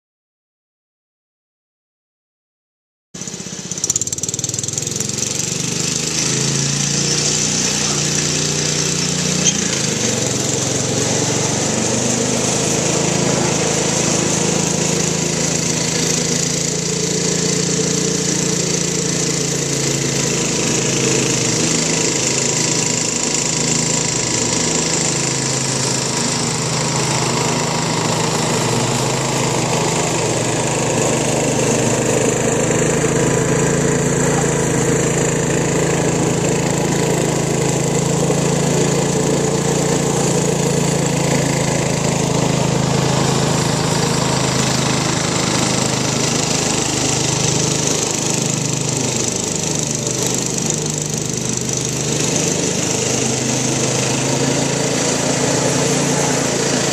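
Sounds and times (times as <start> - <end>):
lawn tractor engine mowing: 3.2 - 56.9.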